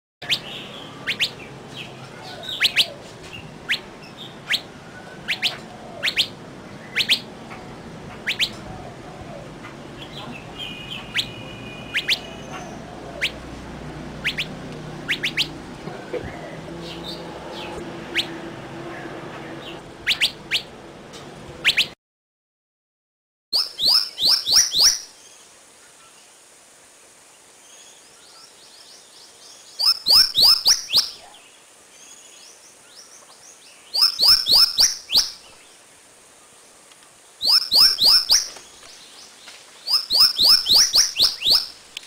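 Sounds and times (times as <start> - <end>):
small birds chirping: 0.2 - 20.8, 21.6 - 22.0, 23.6 - 26.4, 27.1 - 42.0.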